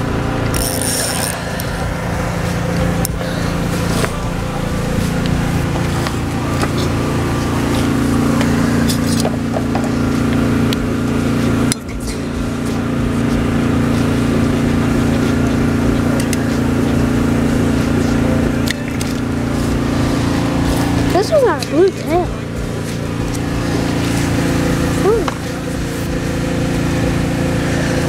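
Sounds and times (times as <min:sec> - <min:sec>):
boat motor running: 0:00.0 - 0:28.0.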